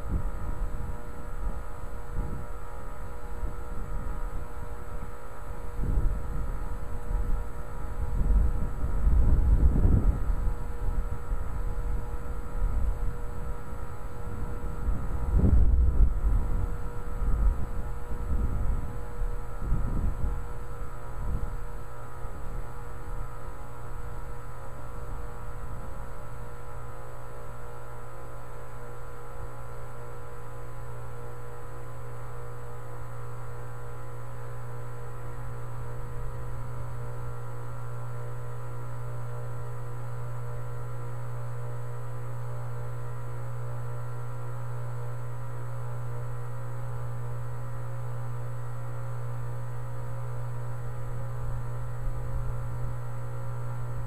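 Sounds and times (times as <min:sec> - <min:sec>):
heat pump low hum: 0:00.0 - 0:54.0.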